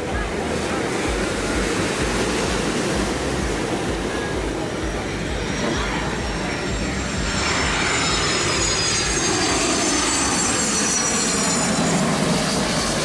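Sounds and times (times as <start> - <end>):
jet engine high whine: 0.0 - 13.0
jet engines rushing: 0.0 - 13.0.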